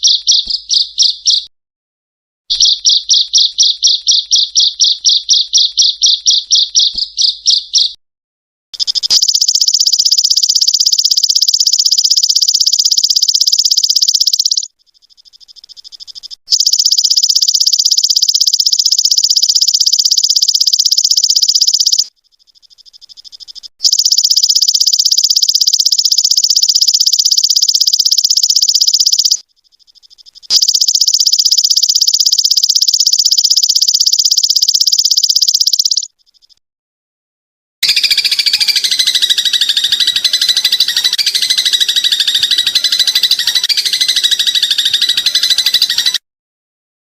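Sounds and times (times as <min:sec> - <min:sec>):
cricket trilling: 0:02.5 - 0:07.9, 0:08.8 - 0:36.6, 0:37.8 - 0:45.9.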